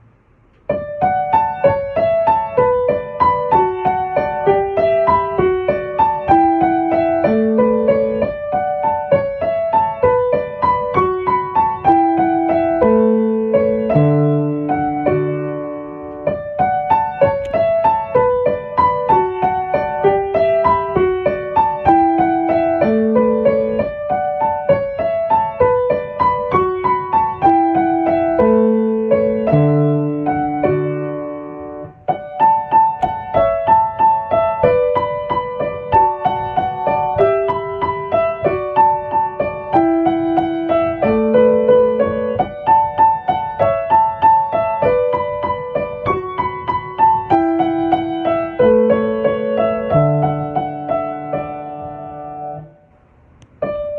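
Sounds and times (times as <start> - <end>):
solo piano melody: 0.0 - 53.9.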